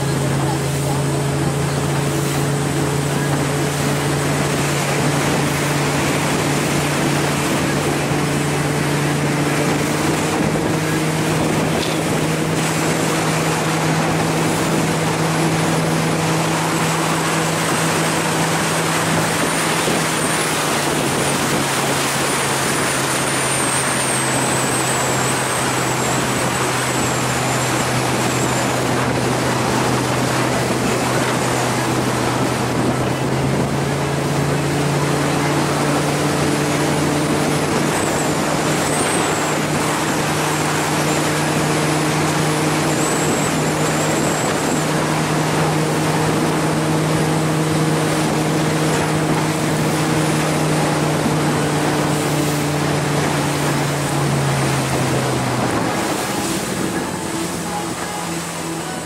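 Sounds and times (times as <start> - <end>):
boat engine running: 0.0 - 59.0
rush of water and wind: 0.0 - 59.0.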